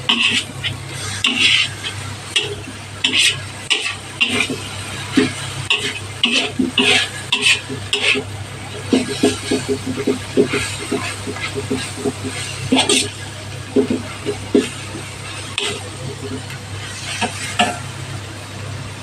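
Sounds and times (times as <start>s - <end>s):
utensil scraping leaves in pan: 0.0s - 17.9s.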